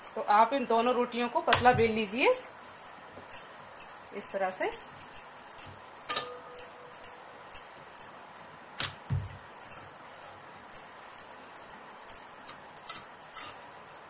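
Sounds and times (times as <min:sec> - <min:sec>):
metal bangles clinking: 0:00.0 - 0:14.0.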